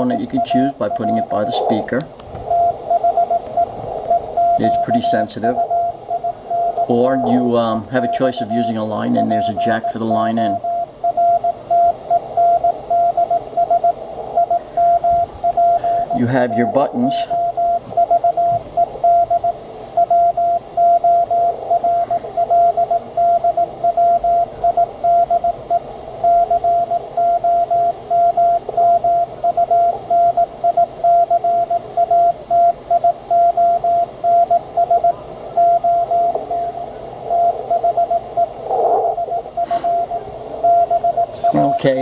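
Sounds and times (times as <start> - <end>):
faint radio hiss: 0.0 - 42.0
morse code beeping: 0.0 - 42.0.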